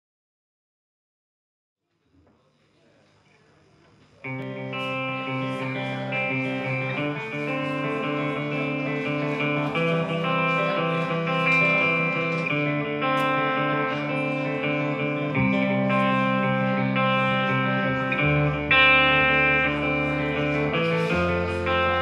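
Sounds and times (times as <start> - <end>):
faint room noise: 1.8 - 22.0
electric and acoustic guitars: 4.3 - 22.0.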